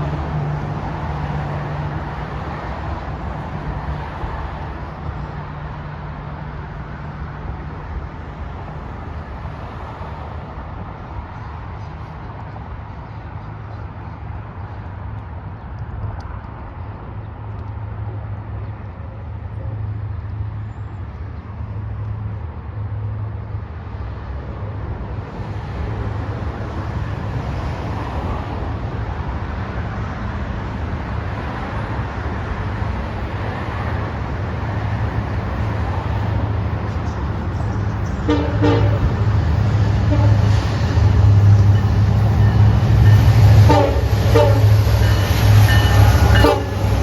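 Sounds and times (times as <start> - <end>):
diesel locomotive engine rumble: 0.0 - 47.0.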